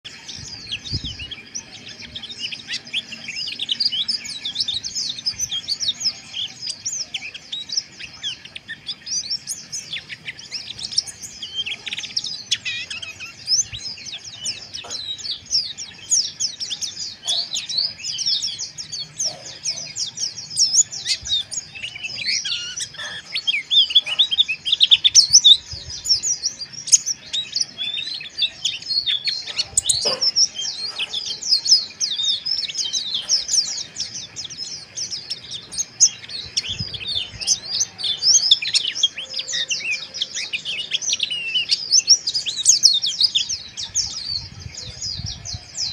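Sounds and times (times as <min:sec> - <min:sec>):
birds twittering in high chirps: 0:00.0 - 0:45.9.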